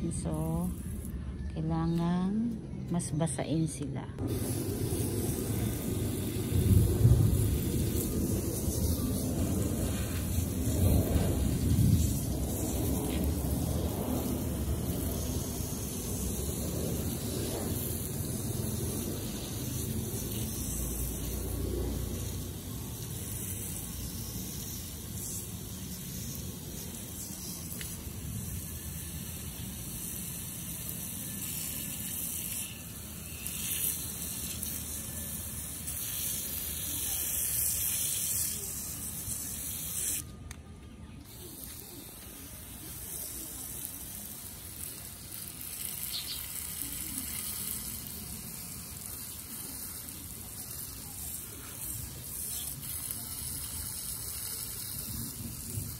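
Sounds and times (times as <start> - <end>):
hose spraying water: 4.2 - 40.6, 41.2 - 55.9.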